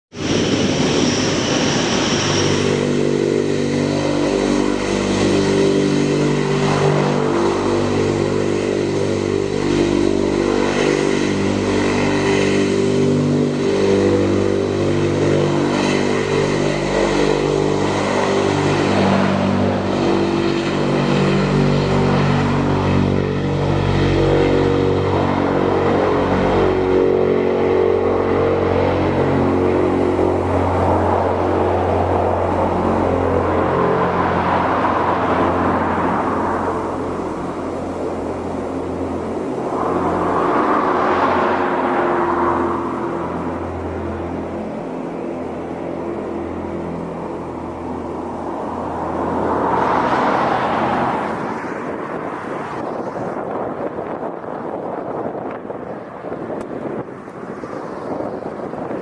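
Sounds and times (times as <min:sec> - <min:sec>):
low aircraft drone: 0:00.0 - 0:59.0.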